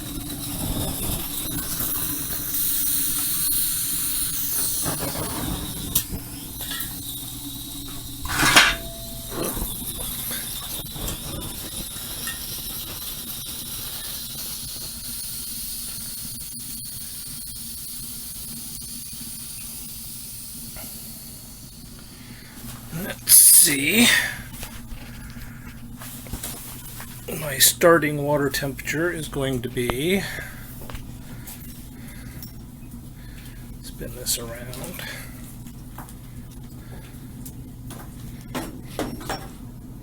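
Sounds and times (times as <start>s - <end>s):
stove fire hissing rush: 0.0s - 40.0s.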